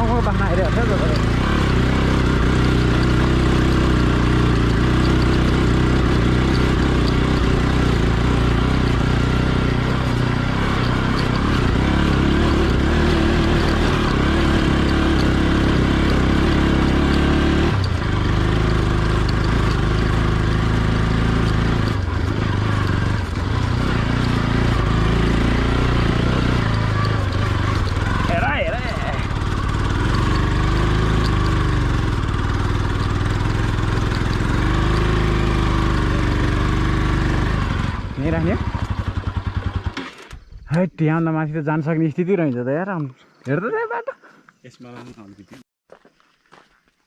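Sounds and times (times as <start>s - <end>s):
motorcycle engine running: 0.0s - 40.7s.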